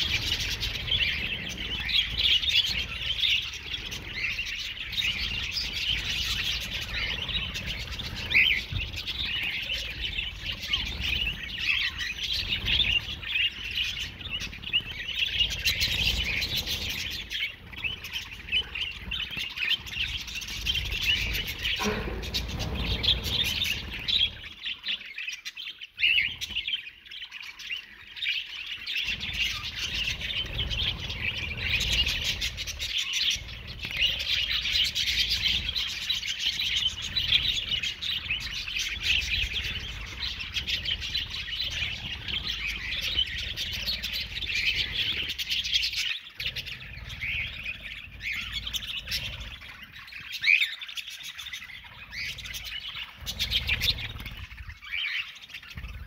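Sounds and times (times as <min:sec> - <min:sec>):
budgerigars chattering and chirping: 0:00.0 - 0:56.0.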